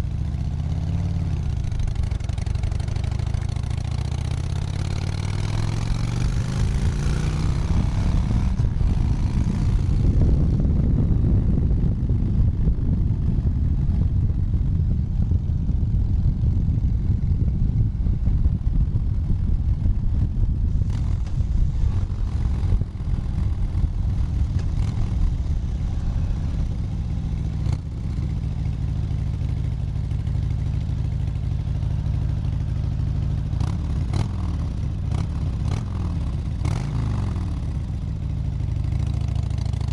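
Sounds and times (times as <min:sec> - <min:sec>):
motorcycle engine revving: 0:00.0 - 0:14.7, 0:15.3 - 0:39.9.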